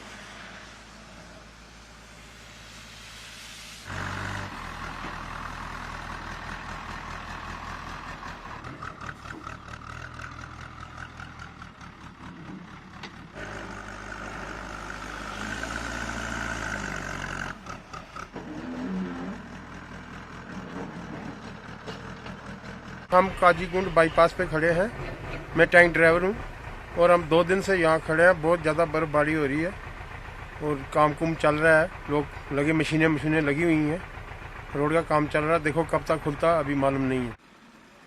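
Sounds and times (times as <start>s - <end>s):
heavy truck engines idling: 0.0s - 38.0s
road noise: 0.0s - 38.0s.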